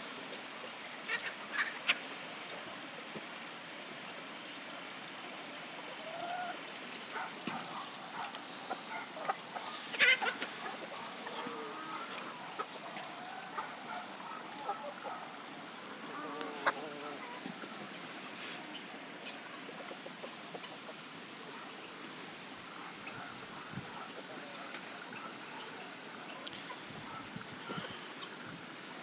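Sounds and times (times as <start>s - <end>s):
poultry clucking: 0.0s - 28.4s
steady hiss: 0.0s - 29.0s.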